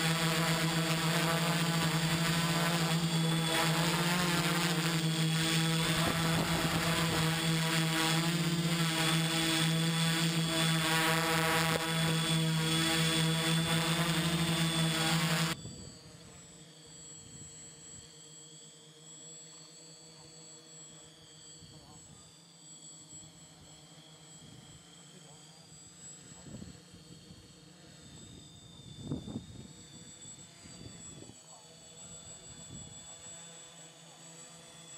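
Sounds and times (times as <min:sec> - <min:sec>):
faint quadcopter hum: 0:00.0 - 0:34.9
quadcopter motors humming: 0:00.0 - 0:34.9.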